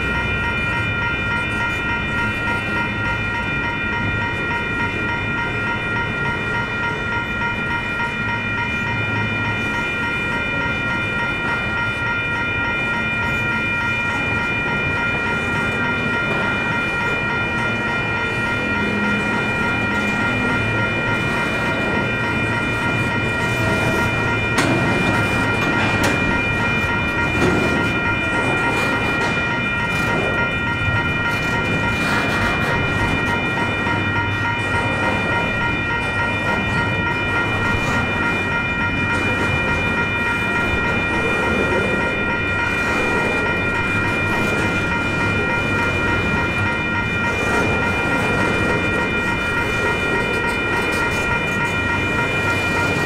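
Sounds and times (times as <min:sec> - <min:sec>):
freight train rumbling: 0:00.0 - 0:53.0
train cars clanking: 0:00.0 - 0:53.0.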